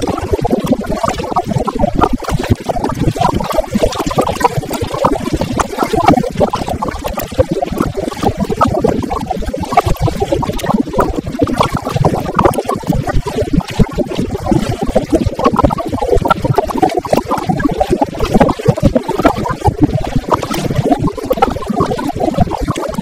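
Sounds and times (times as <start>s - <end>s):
wind and rain on microphone: 0.0s - 23.0s.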